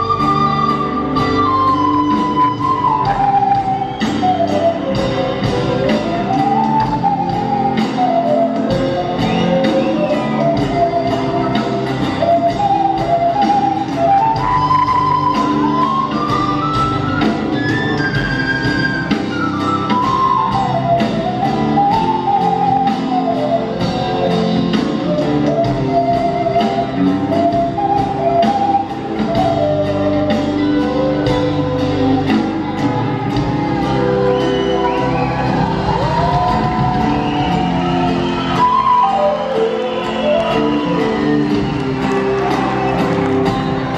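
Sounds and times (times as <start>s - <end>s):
drum kit: 0.0s - 43.9s
guitar: 0.0s - 43.9s
wind instrument melody: 0.0s - 43.9s.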